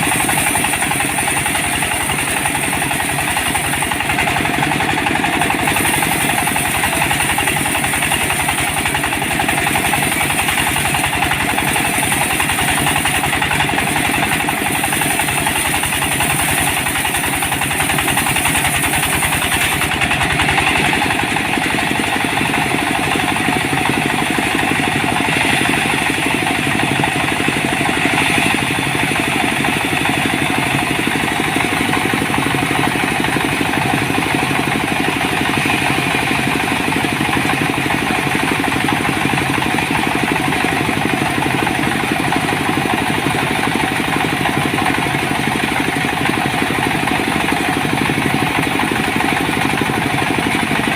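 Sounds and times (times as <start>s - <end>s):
small engine running steadily: 0.0s - 50.9s.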